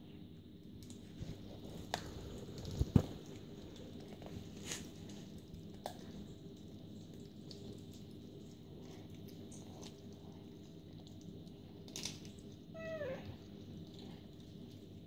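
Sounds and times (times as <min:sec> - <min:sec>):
cats chewing wet meat: 0:00.4 - 0:15.0.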